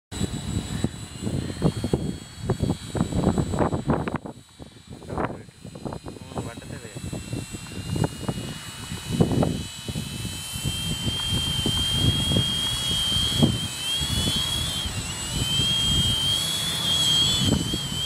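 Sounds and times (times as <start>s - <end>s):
drone motors whining: 0.1s - 18.0s
wind rumbling on microphone: 0.1s - 18.0s.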